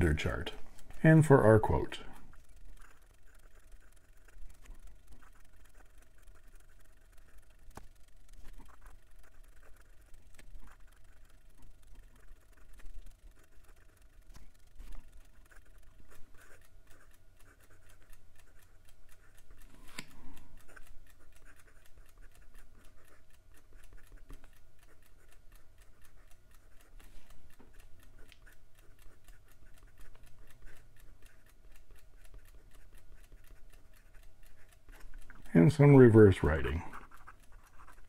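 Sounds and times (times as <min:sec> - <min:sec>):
pen nib scratching on paper: 0:00.0 - 0:38.0.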